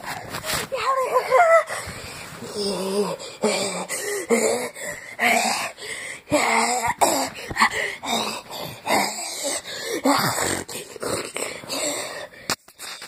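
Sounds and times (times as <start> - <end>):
person making breathy vocal sounds: 1.1 - 13.0.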